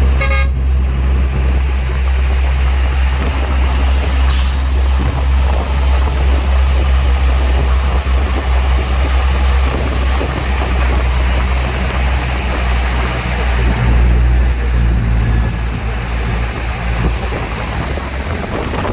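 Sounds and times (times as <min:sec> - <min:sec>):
diesel engine droning: 0:00.0 - 0:18.9.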